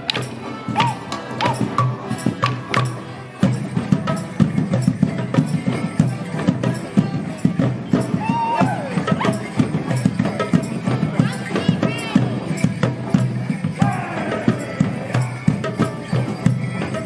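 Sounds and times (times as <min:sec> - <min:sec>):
melodeons and drum playing: 0:00.0 - 0:17.0.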